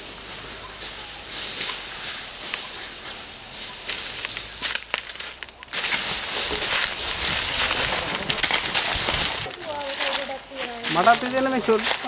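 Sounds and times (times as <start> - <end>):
dry leaves crackling and rustling: 0.0 - 12.0
steady outdoor hiss: 0.0 - 12.0.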